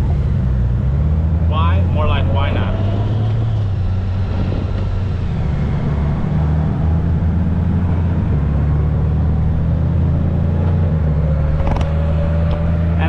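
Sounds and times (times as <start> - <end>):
motorcycle engine cruising: 0.0 - 13.0
wind rushing over microphone: 1.7 - 13.0.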